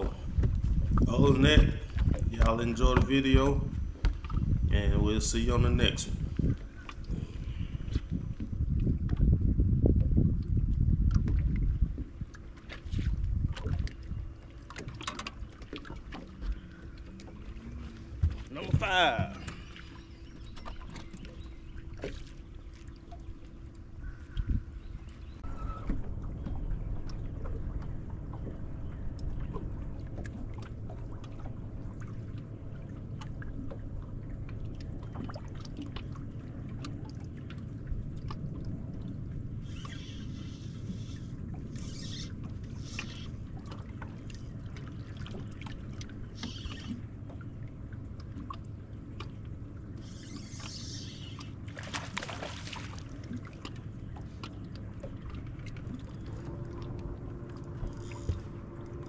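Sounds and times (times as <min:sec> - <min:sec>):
steady low rumble: 0:00.0 - 0:14.8, 0:15.6 - 0:50.0
water lapping against hull: 0:00.0 - 0:59.0.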